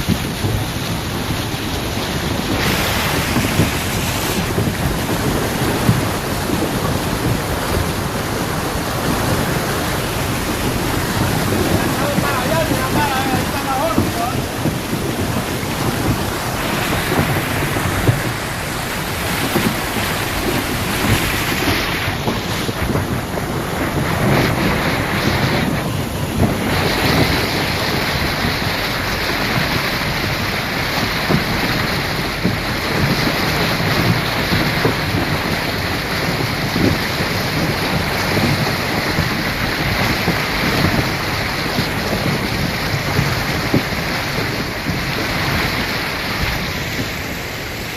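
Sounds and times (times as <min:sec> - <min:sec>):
heavy rain: 0:00.0 - 0:47.9
wind buffeting microphone: 0:00.0 - 0:47.9.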